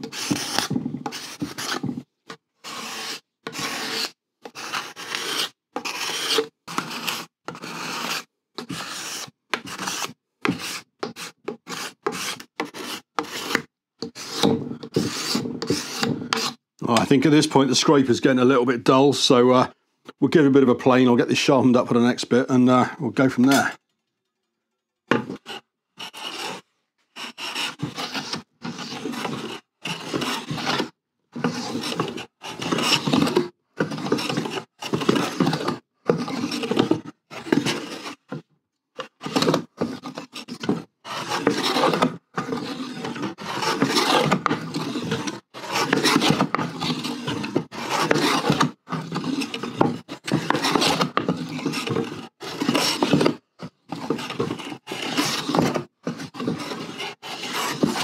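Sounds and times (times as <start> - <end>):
hand plane rasping on wood: 0.0 - 2.0, 2.6 - 16.6, 25.1 - 26.6, 27.2 - 38.4, 39.0 - 58.0.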